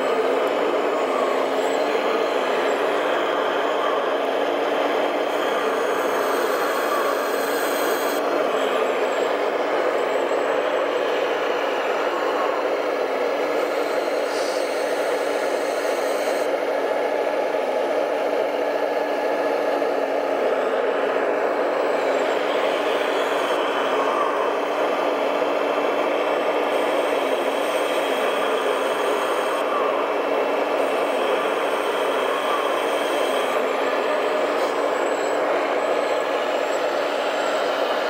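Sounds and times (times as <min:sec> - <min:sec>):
rc excavator motors whirring: 0:00.0 - 0:38.0.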